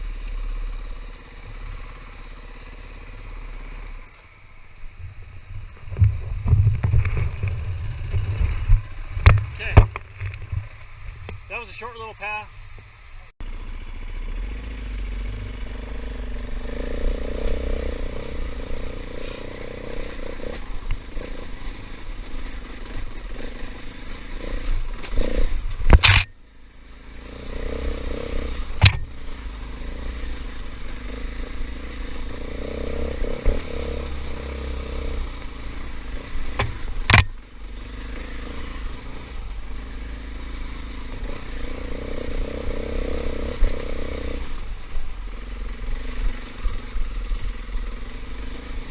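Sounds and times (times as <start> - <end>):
dirt bike engine revving: 0.0 - 4.1, 13.4 - 48.9.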